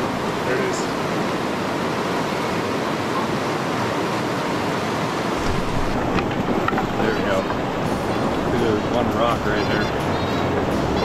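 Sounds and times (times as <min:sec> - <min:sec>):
river water flowing over rocks: 0:00.0 - 0:11.0.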